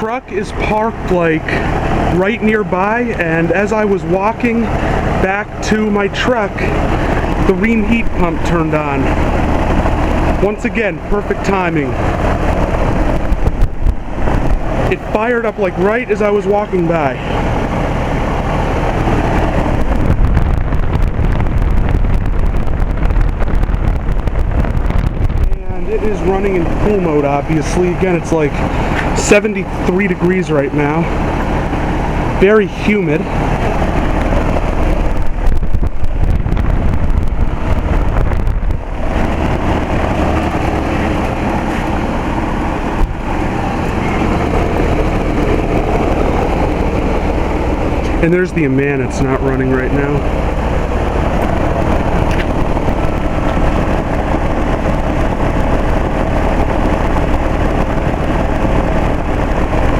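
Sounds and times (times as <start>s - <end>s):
condenser fan rushing: 0.0s - 59.9s
heat pump humming: 0.0s - 59.9s
wind buffeting microphone: 0.0s - 59.9s.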